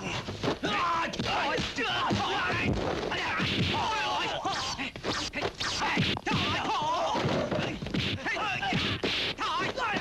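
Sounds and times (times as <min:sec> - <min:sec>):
fighters yelling and grunting: 0:00.0 - 0:05.0, 0:05.8 - 0:10.0.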